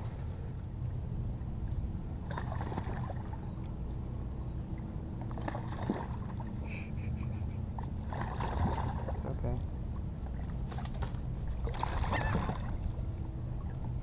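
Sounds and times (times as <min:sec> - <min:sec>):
low rumble: 0:00.0 - 0:14.0
water sloshing around boat: 0:00.0 - 0:14.0.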